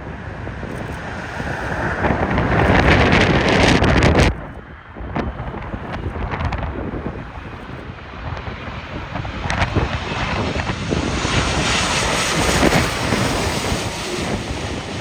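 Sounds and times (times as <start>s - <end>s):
jet airliner passing: 0.0s - 15.0s
wind buffeting microphone: 0.0s - 15.0s.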